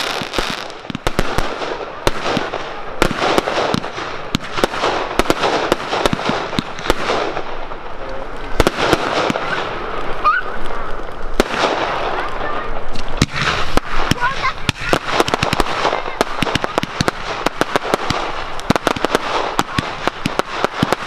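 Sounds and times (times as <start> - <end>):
crackling hiss: 0.0 - 21.0
fireworks bangs: 0.0 - 21.0.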